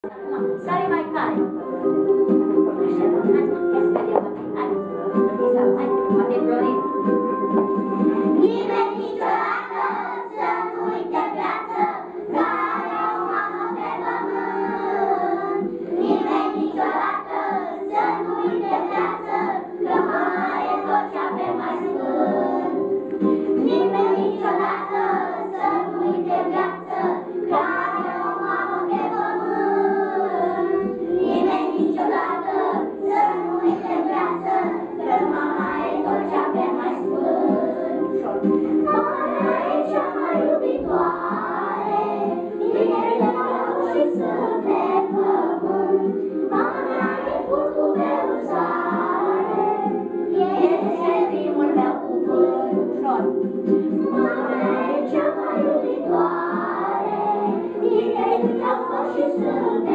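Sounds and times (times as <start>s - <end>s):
musical accompaniment: 0.0s - 59.9s
children singing: 8.0s - 59.9s.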